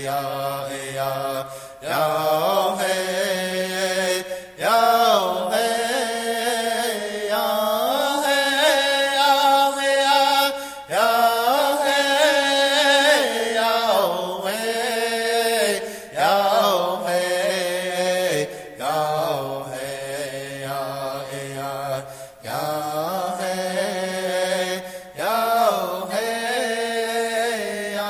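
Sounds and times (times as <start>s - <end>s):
solo voice singing held notes: 0.0s - 28.0s.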